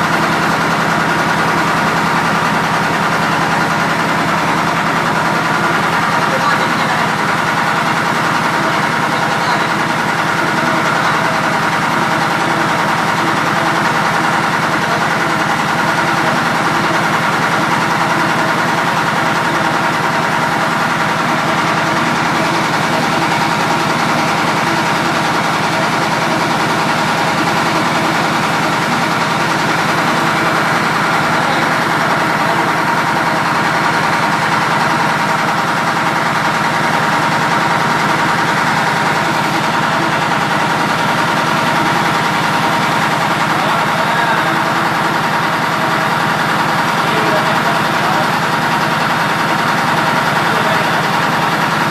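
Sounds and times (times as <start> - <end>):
engine idling: 0.0 - 51.9.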